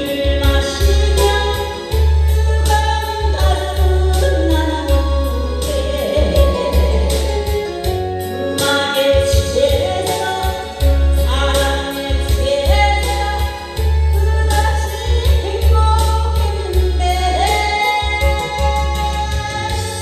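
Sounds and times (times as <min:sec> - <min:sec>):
backing track with heavy bass: 0:00.0 - 0:20.0
woman singing into a microphone: 0:00.0 - 0:20.0.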